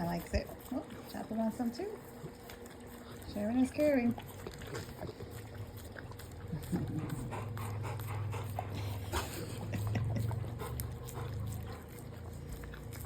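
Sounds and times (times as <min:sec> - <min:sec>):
dogs licking and lapping: 0:00.0 - 0:13.0.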